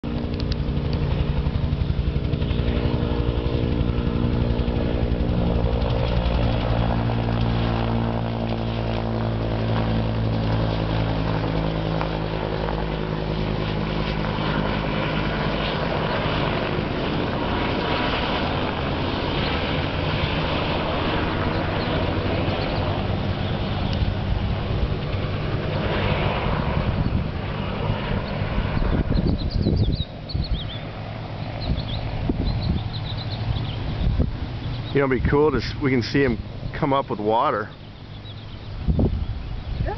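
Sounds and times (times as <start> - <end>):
helicopter rotor beating overhead: 0.0 - 39.9.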